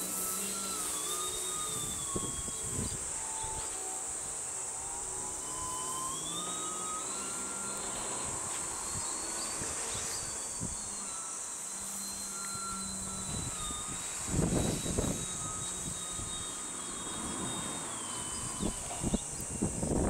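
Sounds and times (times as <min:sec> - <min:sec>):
electric motor and propeller whining: 0:00.0 - 0:20.0.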